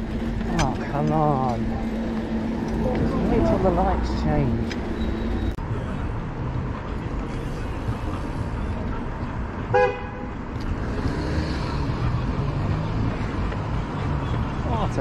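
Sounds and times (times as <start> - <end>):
low traffic rumble: 0.0 - 15.0
wind: 0.0 - 15.0.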